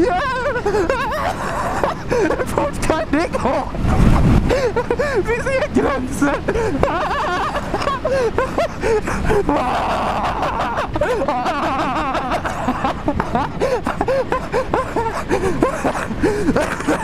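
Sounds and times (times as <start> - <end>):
people shrieking and laughing: 0.0 - 3.8, 4.5 - 17.0.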